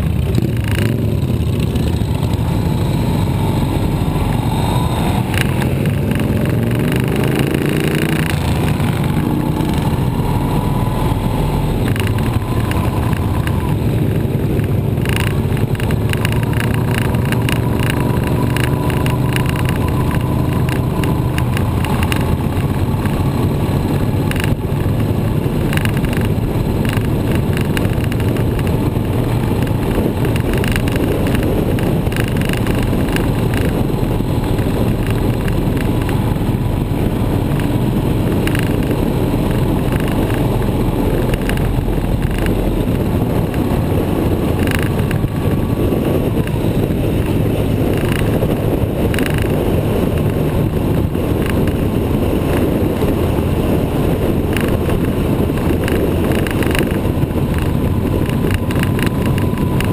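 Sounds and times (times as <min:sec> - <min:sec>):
motorcycle engine accelerating: 0:00.0 - 0:59.9
wind rush on microphone: 0:00.0 - 0:59.9.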